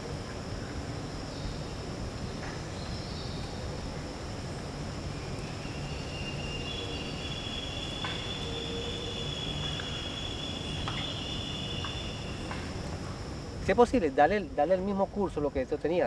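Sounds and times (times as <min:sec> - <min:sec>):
high steady whine: 0:00.0 - 0:16.0
insects droning: 0:00.0 - 0:16.0.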